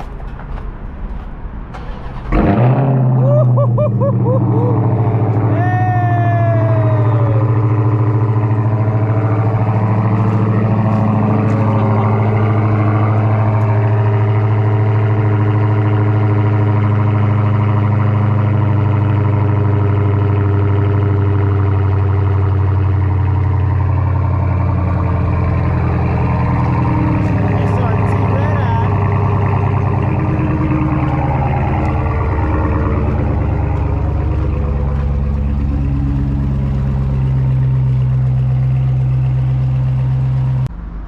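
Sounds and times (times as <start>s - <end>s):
car engine idling loudly: 3.6s - 41.0s.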